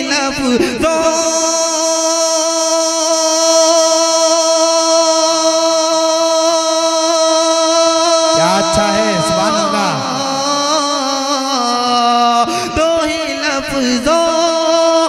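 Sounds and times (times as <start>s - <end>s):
man singing through loudspeaker: 0.0s - 15.0s.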